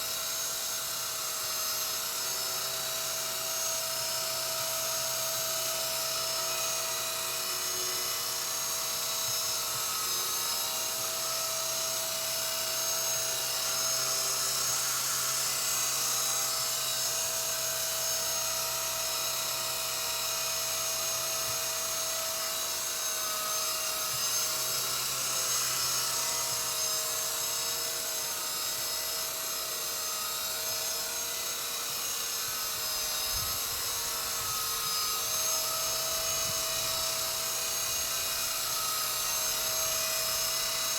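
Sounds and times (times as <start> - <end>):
toy helicopter motor whine: 0.0 - 40.9.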